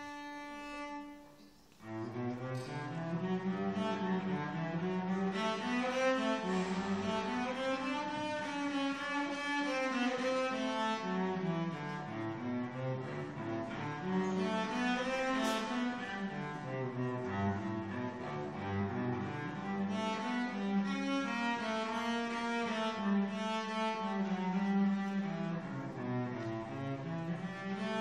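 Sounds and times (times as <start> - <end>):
bowed cello melody: 0.0 - 28.0.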